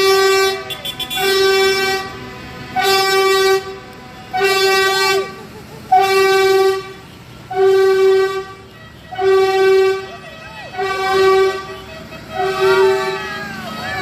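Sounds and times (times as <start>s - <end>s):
vehicle horn blasts: 0.0s - 13.4s.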